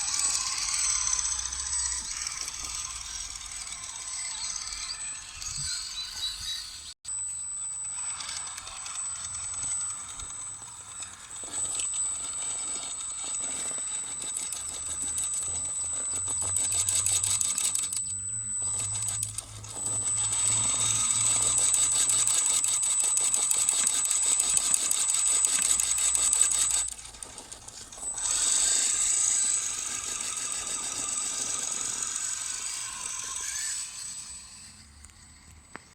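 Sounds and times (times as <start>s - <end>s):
toy truck motor whirring: 0.0s - 35.9s.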